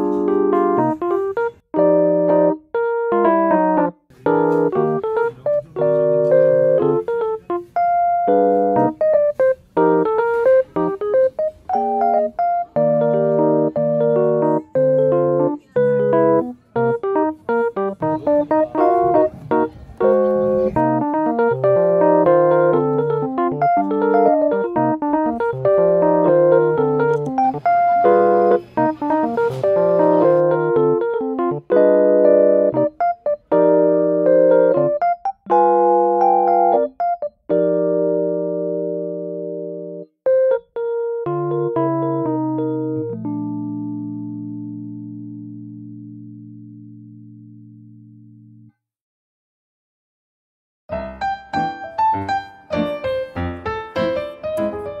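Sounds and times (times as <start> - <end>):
light piano tune: 0.0 - 48.7, 50.9 - 55.0.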